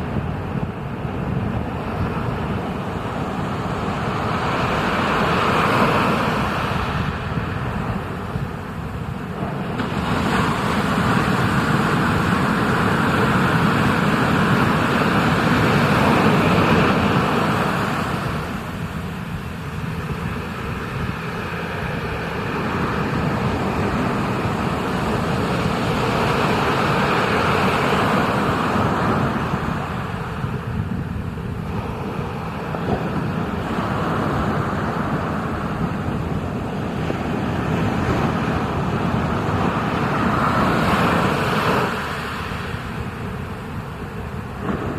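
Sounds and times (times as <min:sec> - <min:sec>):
ocean surf breaking: 0:00.0 - 0:44.9.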